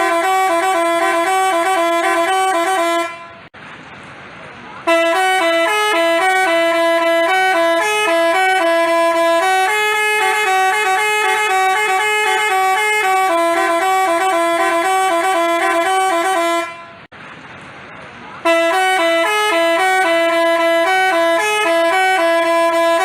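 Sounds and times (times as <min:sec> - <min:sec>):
musical bus horn playing tune: 0:00.0 - 0:03.5, 0:04.8 - 0:17.1, 0:18.4 - 0:23.0.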